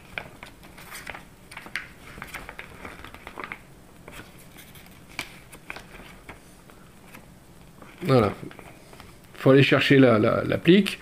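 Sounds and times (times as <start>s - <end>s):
paper pages rustling and turning: 0.0s - 9.2s.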